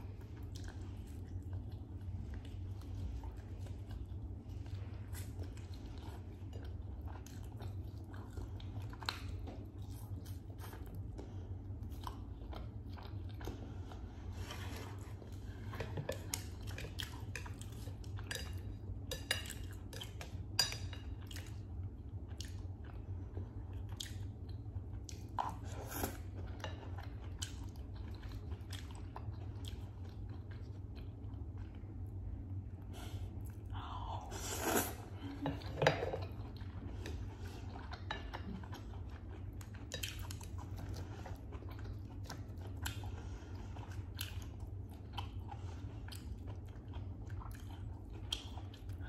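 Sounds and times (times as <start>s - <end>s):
chewing with crisp crunches: 0.0s - 33.8s, 34.7s - 49.0s
steady low hum: 0.0s - 49.0s.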